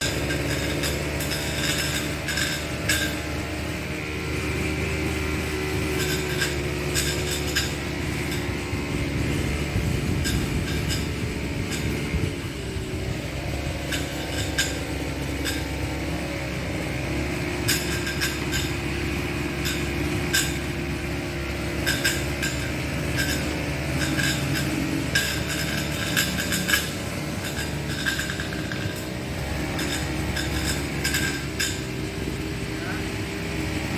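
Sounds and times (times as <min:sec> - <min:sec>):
brush cutter engine running: 0:00.0 - 0:33.9.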